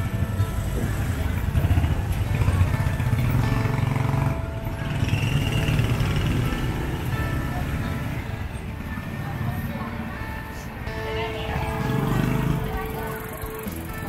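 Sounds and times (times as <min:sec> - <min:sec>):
small motorcycle engines puttering: 0:00.0 - 0:14.0.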